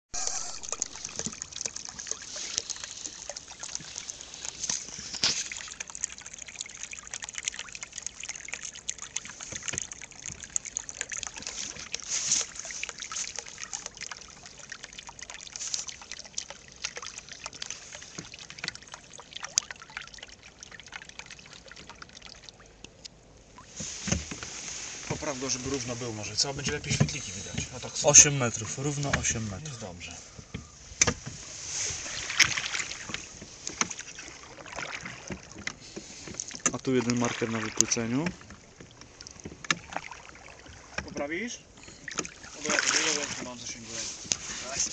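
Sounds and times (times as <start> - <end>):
water trickling and dripping: 0.2 - 44.9.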